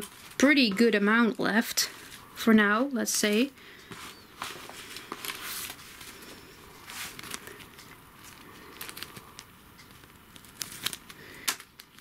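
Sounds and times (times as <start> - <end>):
plastic bags rustling: 0.0 - 2.2, 3.2 - 12.0.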